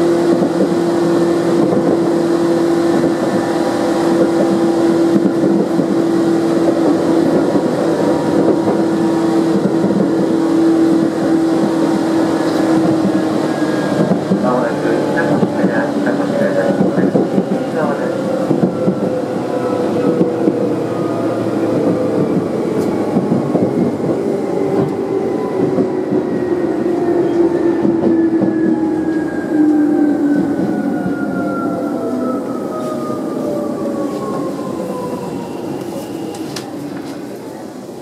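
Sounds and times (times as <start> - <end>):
wheels rumbling on rails: 0.0 - 38.0.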